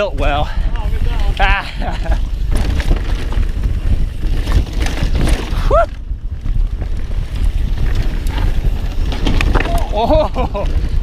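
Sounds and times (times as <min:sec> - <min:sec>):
mountain bike rumbling and rattling: 0:00.0 - 0:11.0
wind buffeting microphone: 0:00.0 - 0:11.0.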